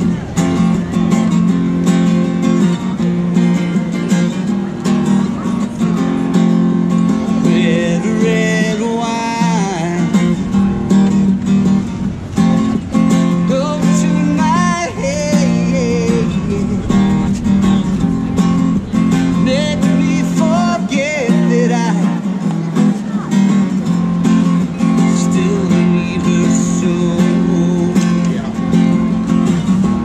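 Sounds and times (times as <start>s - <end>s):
acoustic guitar reggae strumming: 0.0s - 30.0s
sliding guitar melody: 0.0s - 30.0s.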